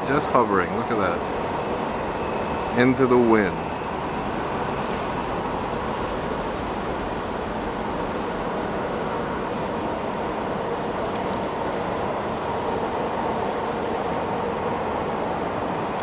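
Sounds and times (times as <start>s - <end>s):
distant traffic: 0.0s - 16.0s
wind: 0.0s - 16.0s.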